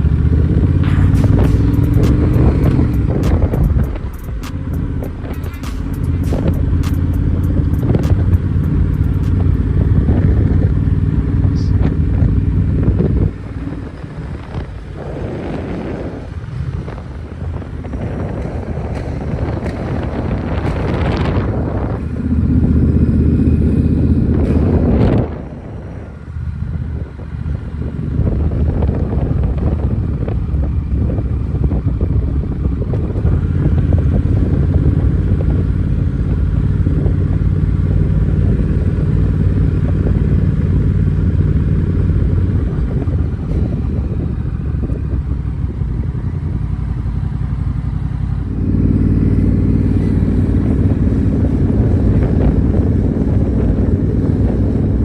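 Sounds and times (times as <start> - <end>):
motorcycle engine running: 0.0 - 55.0
road noise: 0.0 - 55.0
wind noise: 0.0 - 55.0.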